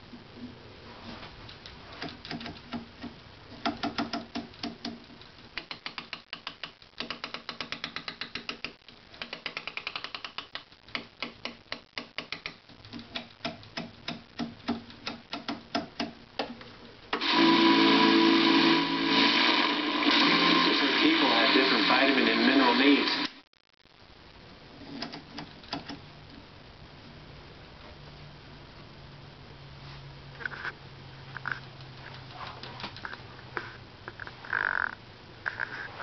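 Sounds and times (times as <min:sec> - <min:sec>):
television broadcast sound: 0:00.1 - 0:27.1, 0:30.3 - 0:36.0.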